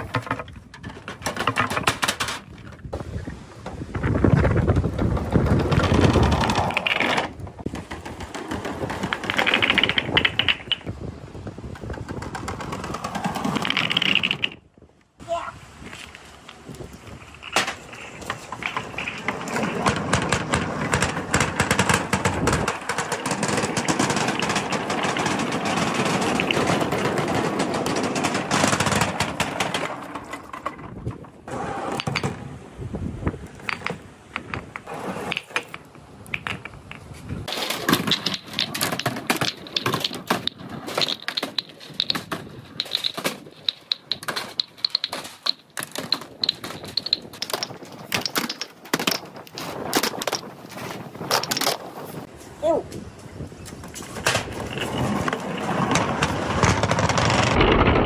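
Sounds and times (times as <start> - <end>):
billiard balls clacking together: 0.0 - 2.8, 5.0 - 11.0, 11.8 - 14.7, 17.3 - 32.4, 33.5 - 52.3, 54.3 - 58.0
billiard balls rolling down ramp: 3.9 - 11.0, 11.7 - 14.6, 17.2 - 32.6, 33.4 - 52.3, 54.2 - 58.0.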